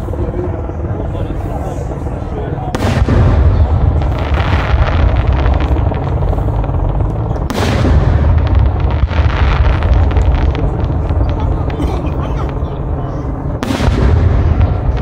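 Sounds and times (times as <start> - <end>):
fireworks deep booming: 2.6 - 15.0
fireworks sharp cracks: 2.7 - 15.0.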